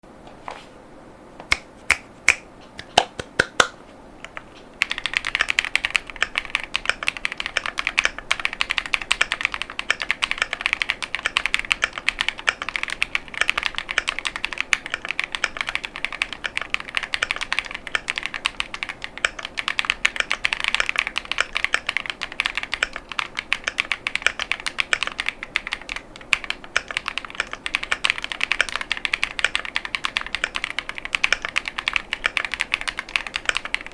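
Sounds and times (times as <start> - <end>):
mechanical keyboard typing: 4.3 - 33.9.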